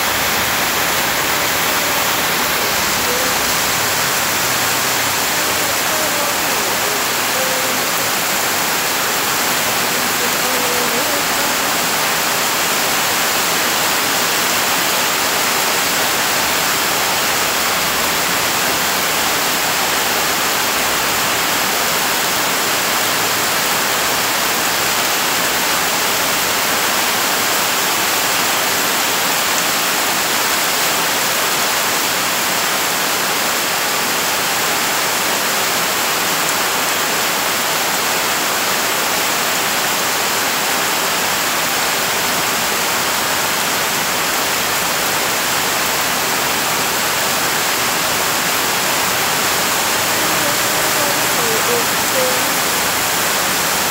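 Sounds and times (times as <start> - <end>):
rain pouring on plants: 0.0 - 53.9.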